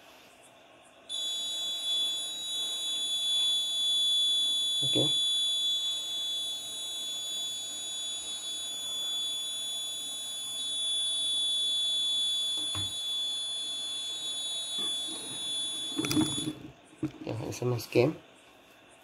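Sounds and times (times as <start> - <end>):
high-pitched buzzer alarm tone: 1.1 - 16.7.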